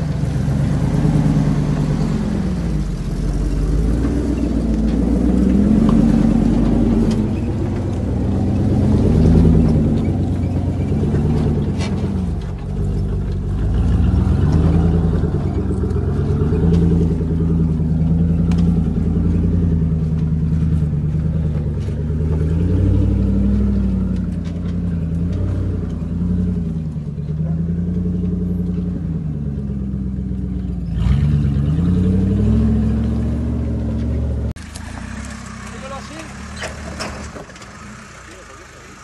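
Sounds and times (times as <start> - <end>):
vehicle engine revving under load: 0.0 - 39.0.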